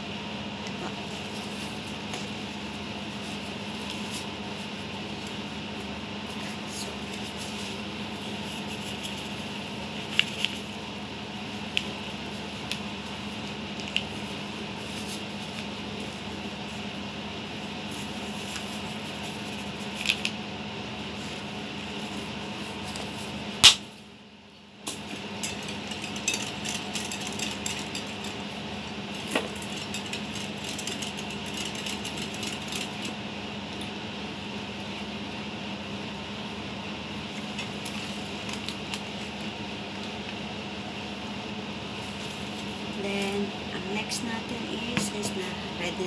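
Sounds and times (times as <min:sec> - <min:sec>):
low room hum: 0:00.0 - 0:46.0.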